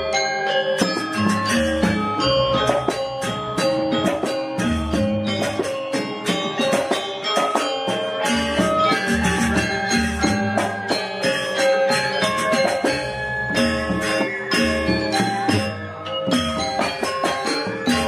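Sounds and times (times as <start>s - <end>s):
jingling percussion: 0.0s - 18.0s
metallophones ringing: 0.0s - 18.0s.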